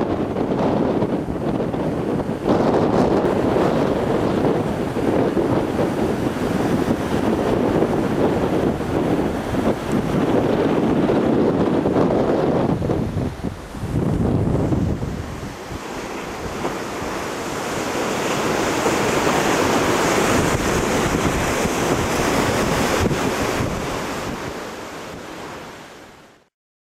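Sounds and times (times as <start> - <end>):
wind buffeting microphone: 0.0 - 26.0
waves breaking: 0.0 - 26.5.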